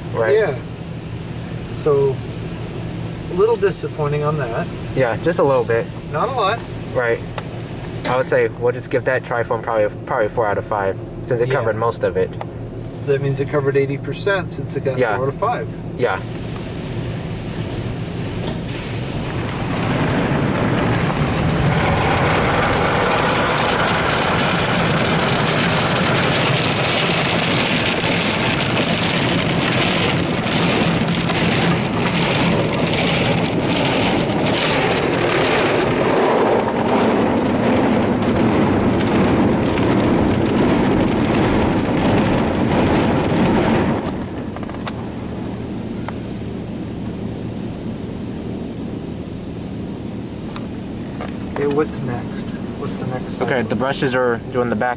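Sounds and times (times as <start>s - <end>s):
car wash water spray and scrubbing: 0.0s - 54.9s
steady machine hum: 0.0s - 54.9s.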